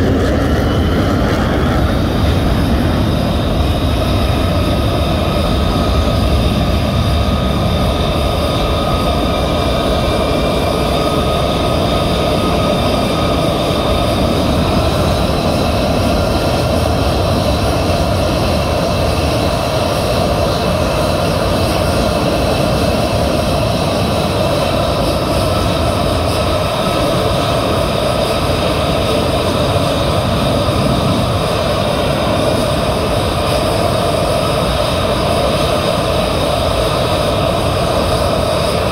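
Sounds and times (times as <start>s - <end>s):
jet engines whining: 0.0s - 38.9s.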